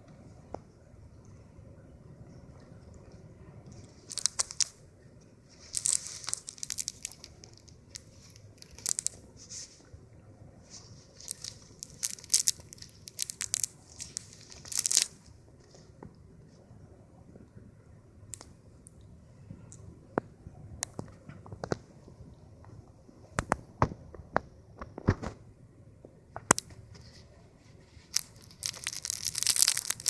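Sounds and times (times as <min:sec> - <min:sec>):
crinkling crackling rustle: 0:02.4 - 0:16.8, 0:18.3 - 0:25.5, 0:26.1 - 0:30.0.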